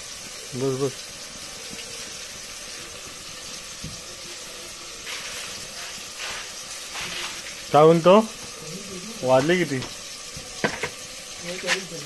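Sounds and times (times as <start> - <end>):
spices sizzling in a pot: 0.0 - 12.0.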